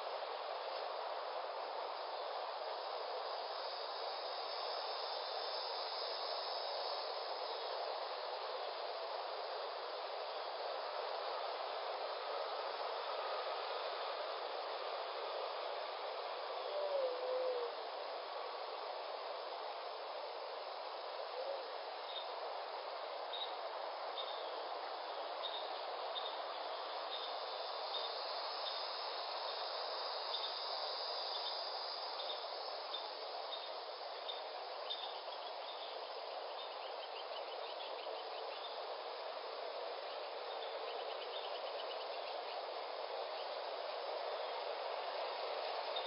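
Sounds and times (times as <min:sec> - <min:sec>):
insects chirping: 0:00.0 - 0:46.0
rapid insect trills: 0:00.0 - 0:46.0.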